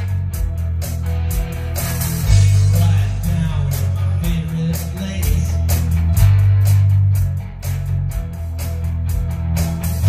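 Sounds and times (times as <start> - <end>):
bass guitar: 0.0 - 10.0
drum kit with cymbals: 0.0 - 10.0
electric guitar: 0.0 - 10.0.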